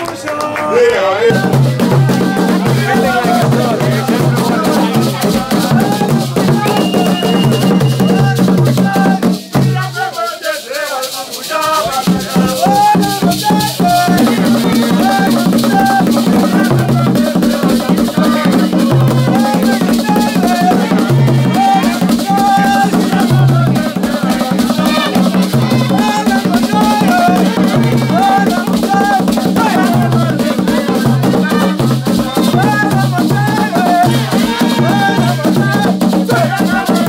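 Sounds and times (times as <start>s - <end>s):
fast shaker rhythm: 1.3s - 37.0s.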